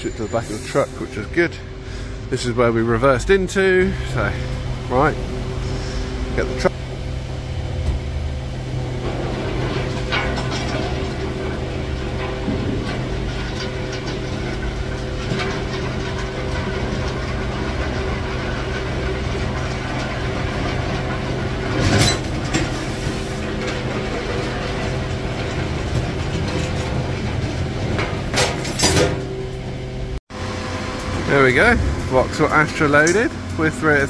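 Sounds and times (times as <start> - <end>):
truck engine and winch droning: 0.0 - 34.0.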